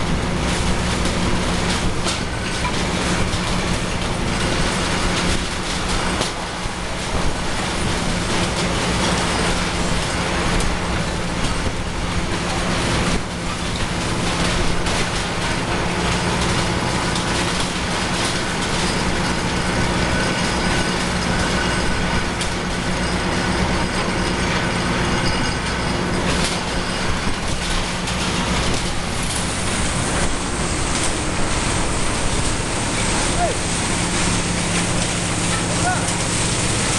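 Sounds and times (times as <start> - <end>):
mechanical knocks and clatter: 0.0 - 36.9
tub grinder running: 0.0 - 36.9.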